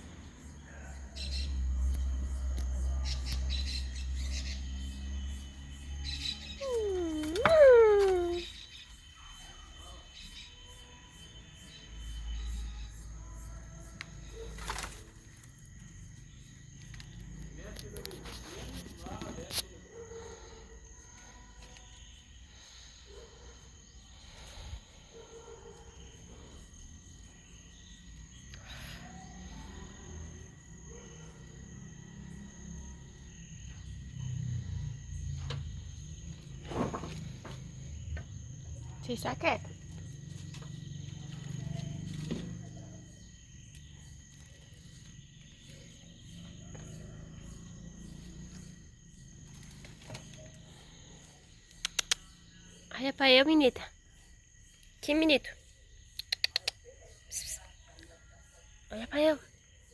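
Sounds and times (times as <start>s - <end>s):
high insect trill: 0.0s - 59.9s.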